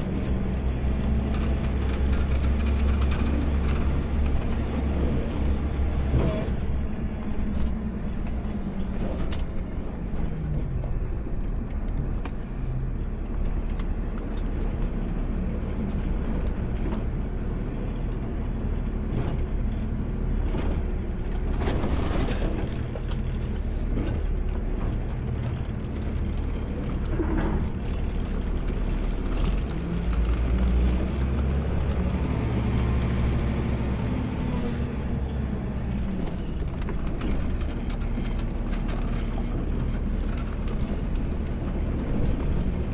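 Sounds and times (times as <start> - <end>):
garbage truck engine rumble: 0.0 - 42.9.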